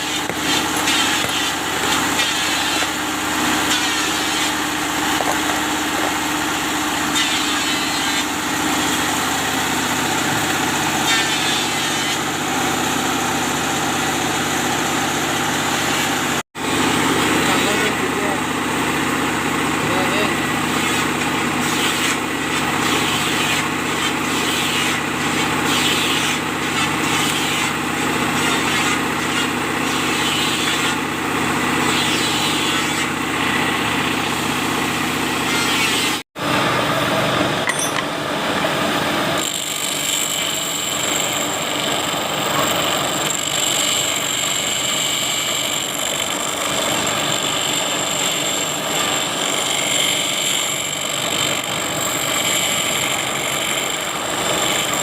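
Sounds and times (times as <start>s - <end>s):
power tool grinding steel: 0.0s - 36.2s, 39.3s - 55.0s.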